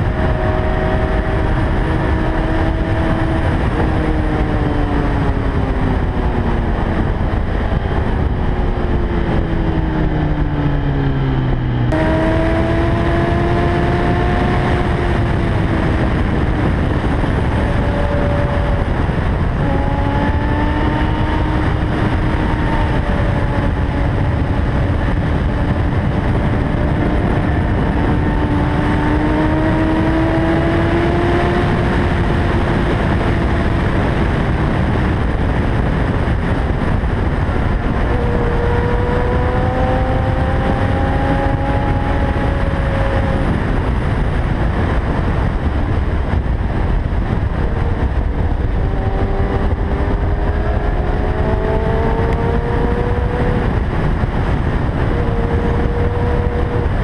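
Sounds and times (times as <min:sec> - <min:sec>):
motorcycle engine accelerating: 0:00.0 - 0:57.0
wind rushing on helmet camera: 0:00.0 - 0:57.0.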